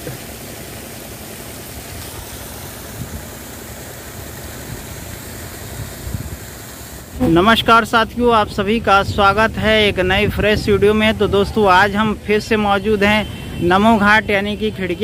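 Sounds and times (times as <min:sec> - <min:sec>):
high-pressure water jet hissing: 0:00.0 - 0:15.0
low engine rumble: 0:00.0 - 0:15.0.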